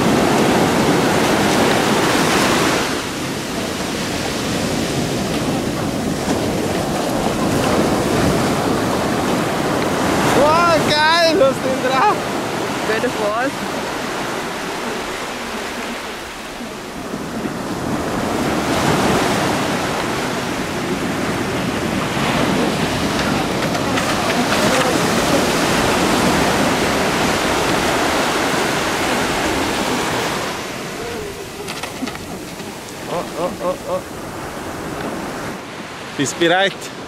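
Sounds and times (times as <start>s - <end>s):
ocean surf breaking on beach: 0.0s - 37.0s.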